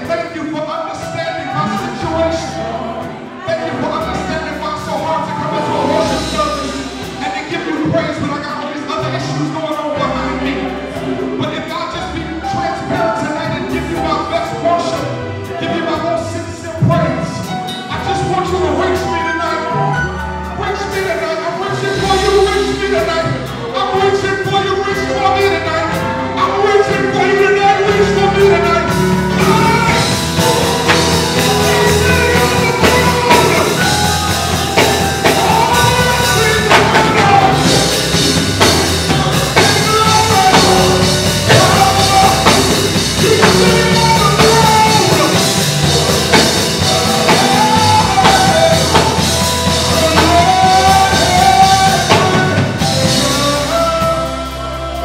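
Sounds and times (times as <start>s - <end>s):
band playing: 0.0s - 55.0s
singers singing gospel: 0.0s - 55.0s.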